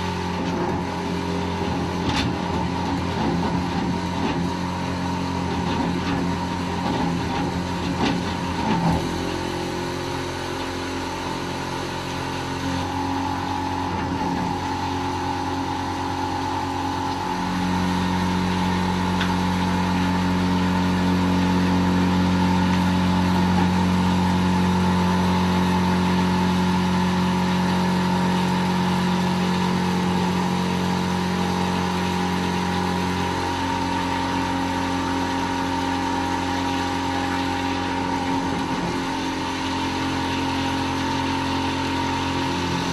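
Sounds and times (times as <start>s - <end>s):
grinder pump humming: 0.0s - 42.9s.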